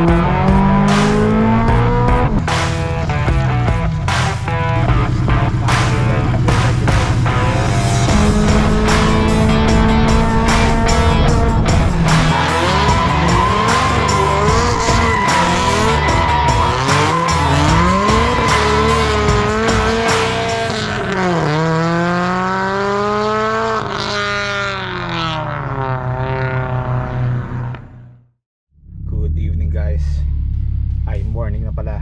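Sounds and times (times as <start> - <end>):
car engine revving hard: 0.0 - 27.6.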